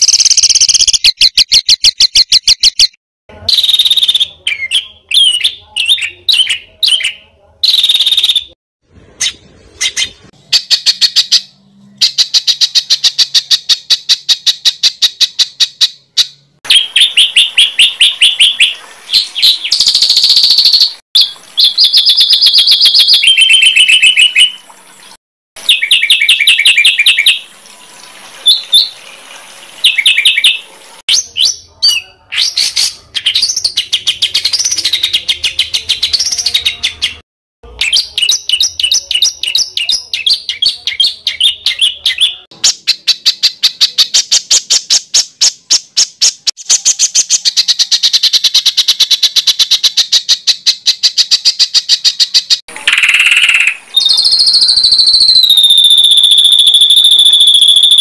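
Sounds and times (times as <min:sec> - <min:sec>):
songbirds singing sharp high notes: 0:00.0 - 0:24.7, 0:29.8 - 0:58.0.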